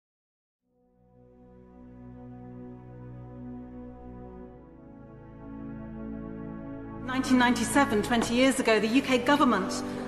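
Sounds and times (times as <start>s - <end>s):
ambient drone music: 0.8s - 10.0s.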